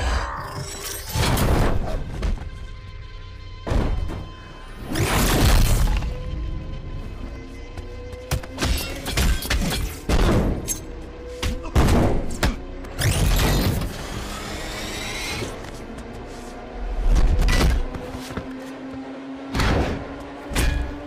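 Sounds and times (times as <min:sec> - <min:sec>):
dramatic action music: 0:00.0 - 0:18.5.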